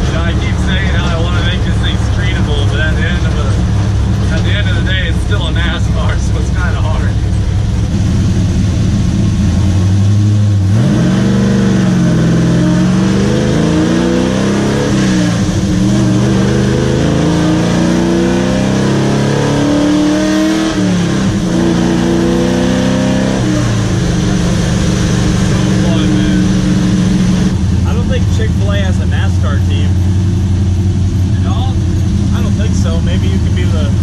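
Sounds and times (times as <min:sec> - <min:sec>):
race truck engine accelerating: 0:00.0 - 0:34.0.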